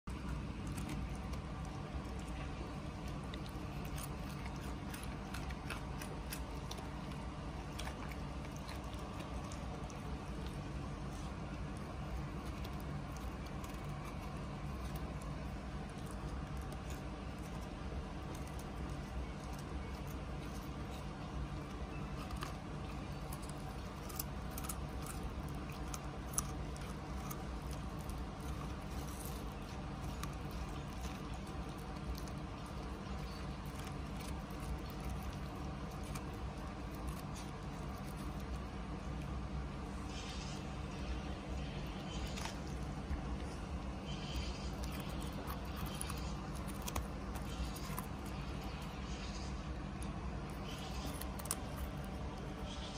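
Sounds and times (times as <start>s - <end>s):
low background hum: 0.0s - 52.9s
puppy crunching carrot: 0.0s - 52.9s.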